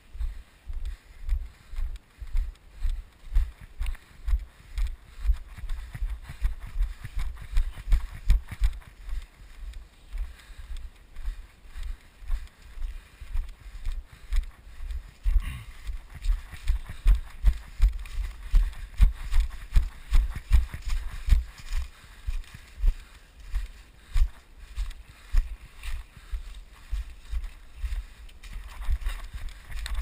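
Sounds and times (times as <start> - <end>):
jogging footsteps on grass and leaves: 0.0 - 30.0.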